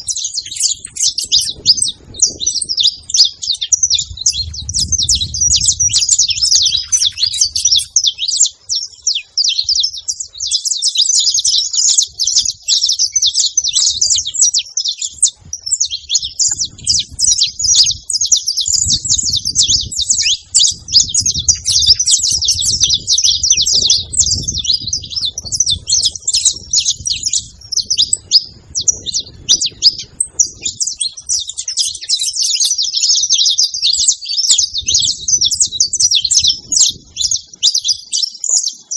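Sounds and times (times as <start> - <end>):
finch singing chirps and trills: 0.0 - 38.9.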